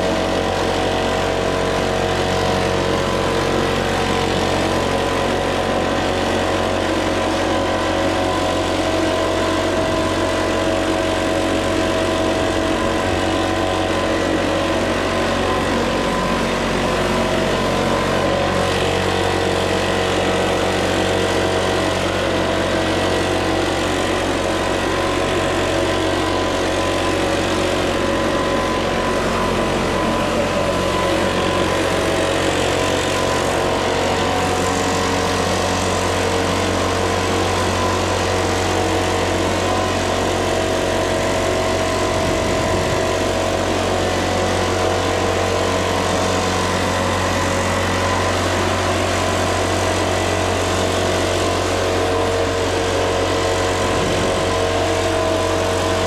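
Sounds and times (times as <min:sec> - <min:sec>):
leaf blower engine running: 0:00.0 - 0:56.0.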